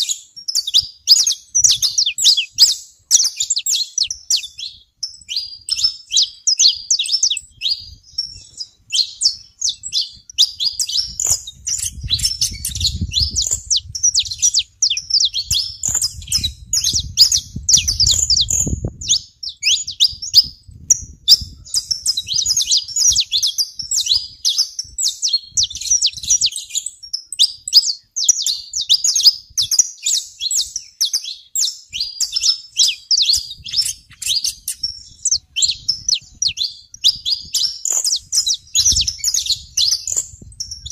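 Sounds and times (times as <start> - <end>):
finches chirping: 0.0 - 20.5, 21.3 - 40.9.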